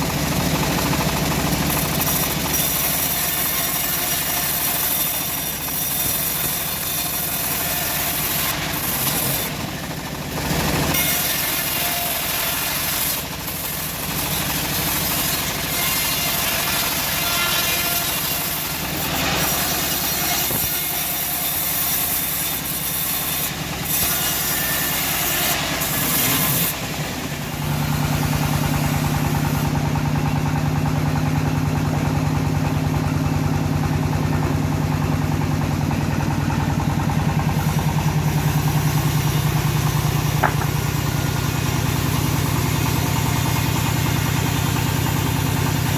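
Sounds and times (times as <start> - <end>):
saw hissing through log: 0.0 - 30.3, 36.4 - 45.9
sawmill engine running: 0.0 - 45.9.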